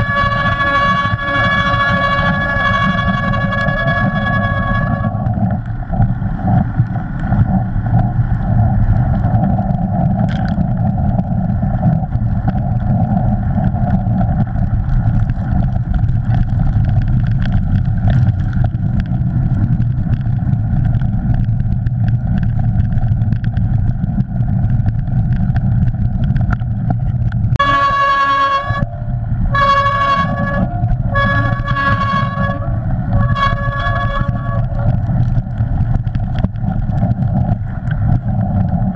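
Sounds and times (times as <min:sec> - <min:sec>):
bike tyre noise: 0:00.0 - 0:38.9
freewheel hub buzzing: 0:00.0 - 0:38.9
wind rush: 0:00.0 - 0:38.9.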